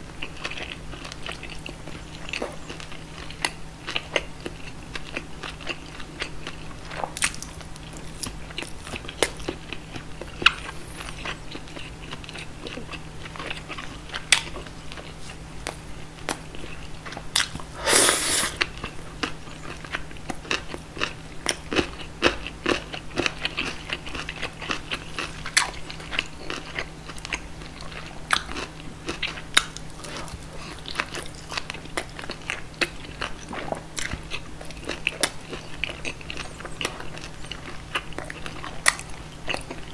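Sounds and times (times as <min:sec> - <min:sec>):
wet chewing and smacking: 0:00.1 - 0:39.9.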